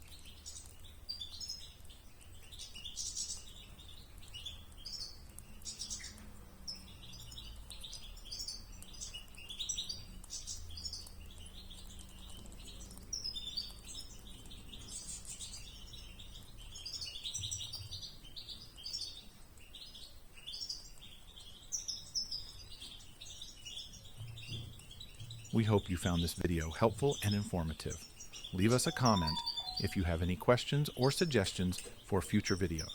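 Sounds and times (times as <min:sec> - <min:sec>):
small songbirds chirping: 0:00.0 - 0:32.9.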